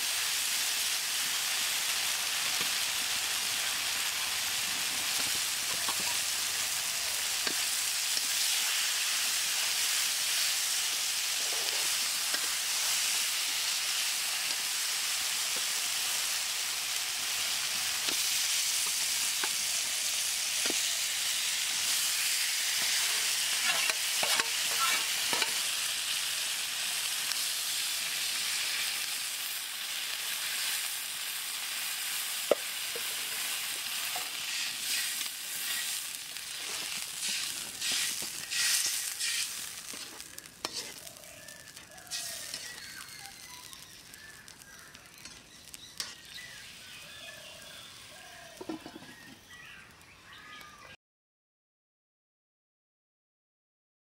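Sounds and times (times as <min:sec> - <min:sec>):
fish sizzling in a wok: 0:00.0 - 0:50.6.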